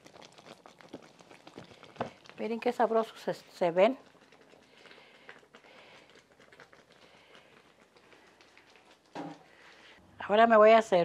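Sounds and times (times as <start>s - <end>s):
broth bubbling in a pot: 0.0s - 10.0s.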